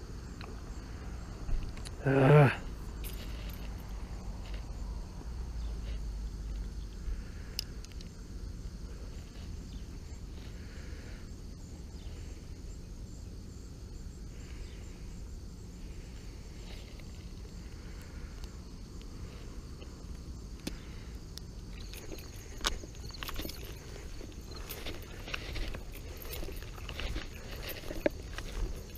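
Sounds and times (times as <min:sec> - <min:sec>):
insects chirring: 0:00.0 - 0:28.9
low wind rumble: 0:00.0 - 0:28.9.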